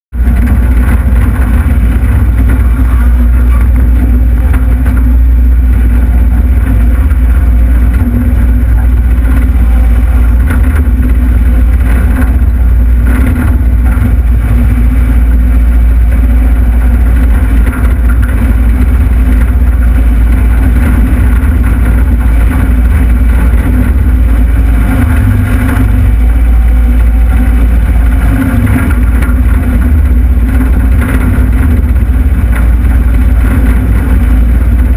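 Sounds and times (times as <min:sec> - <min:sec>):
diesel engine running: 0:00.1 - 0:34.9
machine scraping dirt: 0:00.1 - 0:34.9.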